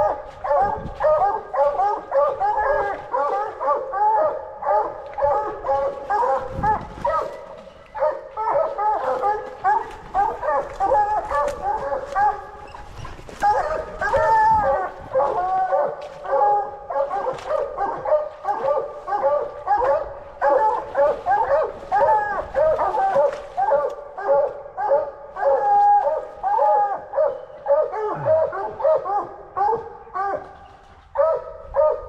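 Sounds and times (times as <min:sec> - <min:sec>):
dogs barking: 0:00.0 - 0:32.0.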